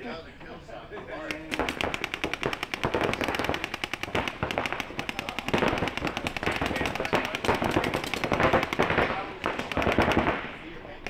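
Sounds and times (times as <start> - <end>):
paintball markers firing: 1.2 - 10.6.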